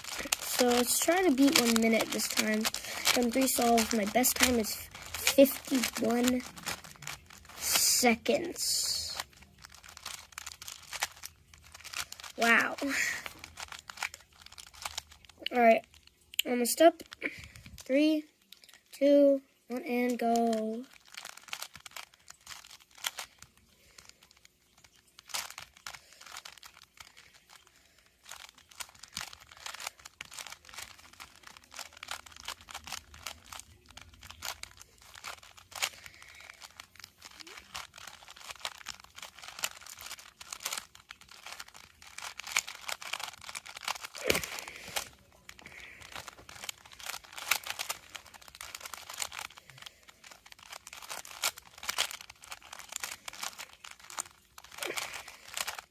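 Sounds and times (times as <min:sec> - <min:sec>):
puzzle cube plastic clicks: 0:00.0 - 0:55.9.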